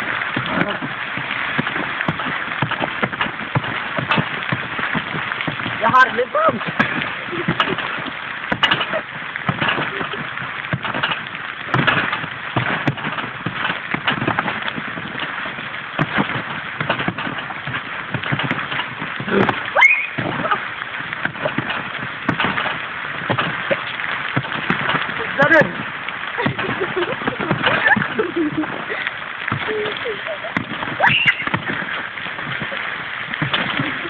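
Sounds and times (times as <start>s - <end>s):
thuds on trampoline mat: 0.0s - 20.6s, 21.2s - 28.8s, 30.5s - 34.0s
rain hissing: 0.0s - 34.0s.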